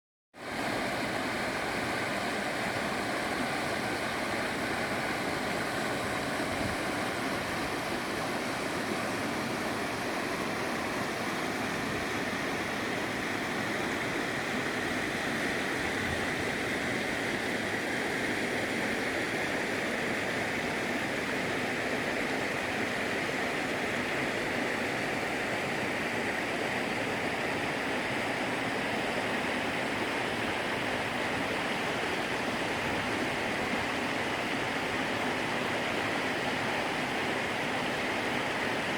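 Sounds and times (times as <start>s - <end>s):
stream water rushing: 0.4s - 38.9s.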